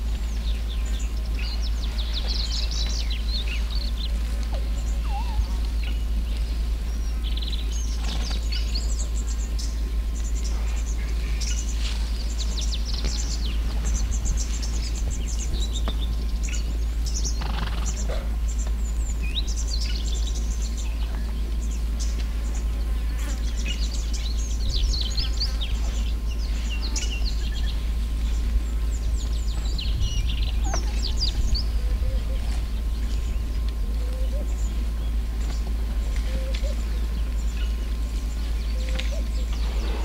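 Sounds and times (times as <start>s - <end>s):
small birds chirping: 0.0s - 40.0s
steady low rumble: 0.0s - 40.0s.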